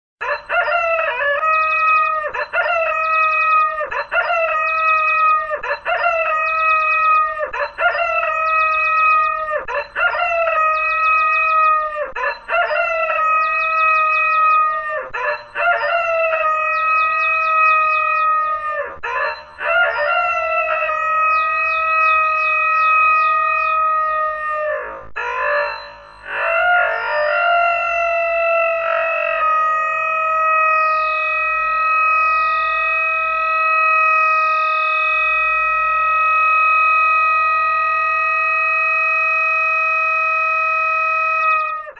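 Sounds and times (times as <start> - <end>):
processed rooster crow: 0.2 - 41.9.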